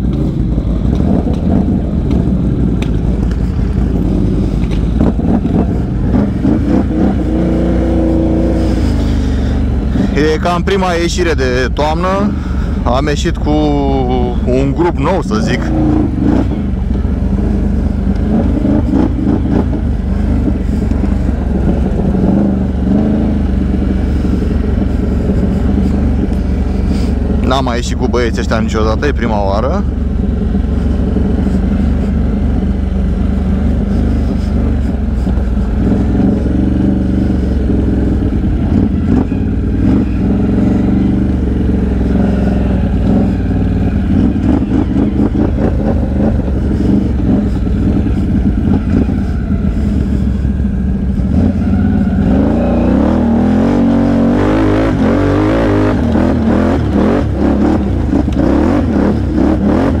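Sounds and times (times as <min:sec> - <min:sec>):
atv engine revving: 0:00.0 - 1:00.0.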